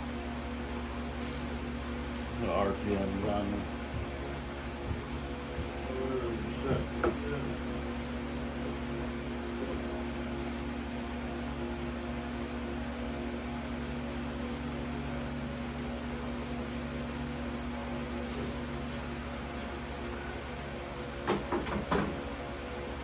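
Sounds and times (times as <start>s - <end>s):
electric motor hum: 0.0s - 23.0s.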